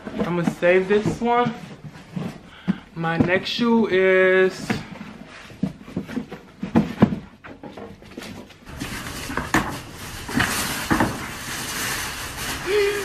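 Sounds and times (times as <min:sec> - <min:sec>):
box being handled: 0:00.0 - 0:12.6.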